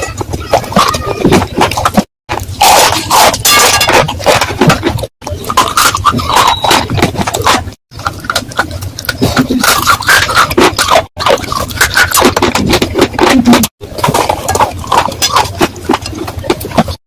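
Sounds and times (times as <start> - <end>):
clay pot crunching and scraping: 0.0 - 17.0.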